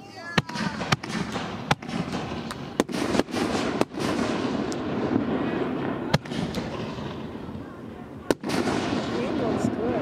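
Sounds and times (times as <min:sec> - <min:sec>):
fireworks crackling: 0:00.0 - 0:10.0
firework bangs: 0:00.1 - 0:10.0.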